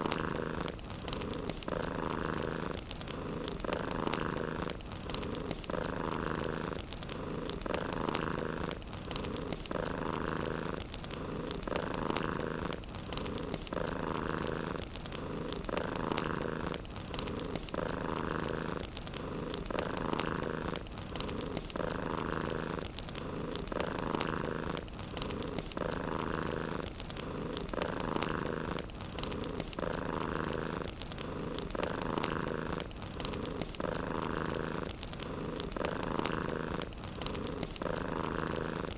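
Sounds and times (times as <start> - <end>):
cat purring: 0.0 - 38.9
fireplace crackles: 0.0 - 38.9.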